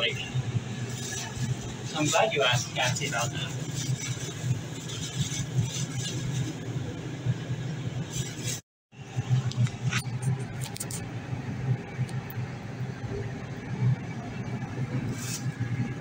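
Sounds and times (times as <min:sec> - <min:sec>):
low hum and rumble in gondola: 0:00.0 - 0:16.0.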